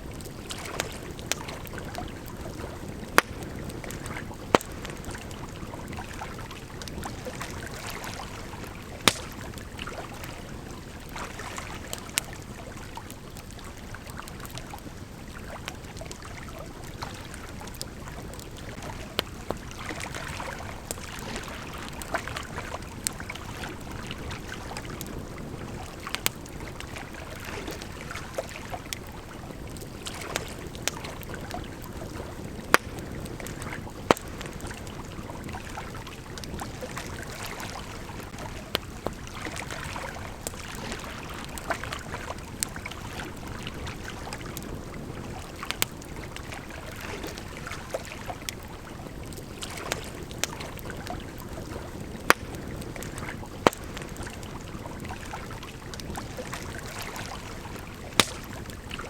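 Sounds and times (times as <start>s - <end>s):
campfire crackling and popping: 0.0s - 59.0s
river flowing: 0.0s - 59.0s.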